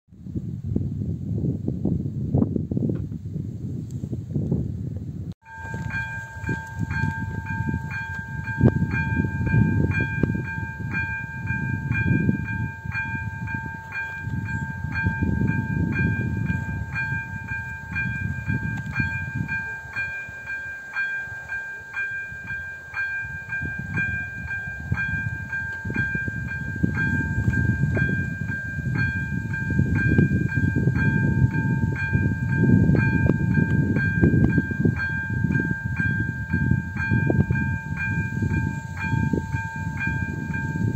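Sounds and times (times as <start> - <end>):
level crossing warning bell: 5.4 - 40.9.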